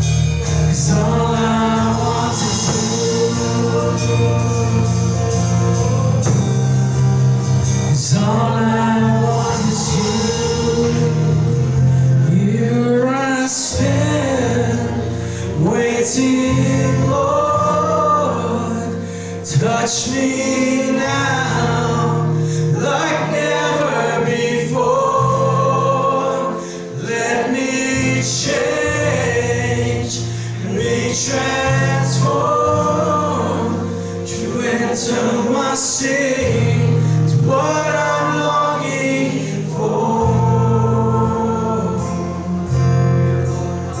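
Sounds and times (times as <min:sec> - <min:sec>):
sustained bass notes: 0:00.0 - 0:44.0
person singing: 0:00.4 - 0:43.1.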